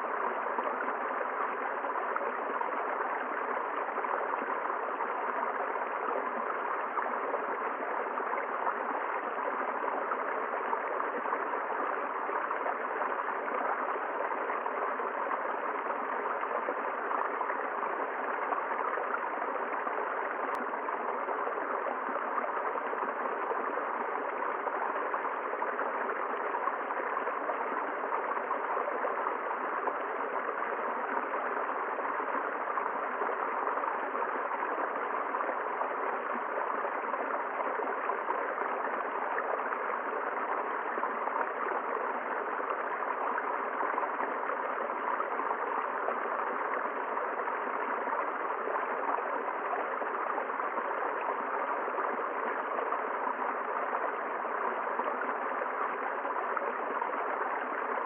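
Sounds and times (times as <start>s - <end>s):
river water gurgling over rocks: 0.0s - 58.0s.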